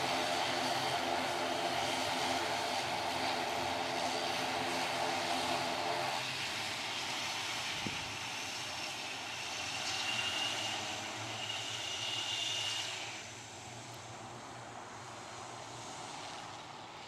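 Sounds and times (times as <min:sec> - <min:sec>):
high turbine whine: 0:00.0 - 0:17.0
turboprop engines and propellers running: 0:00.0 - 0:17.0.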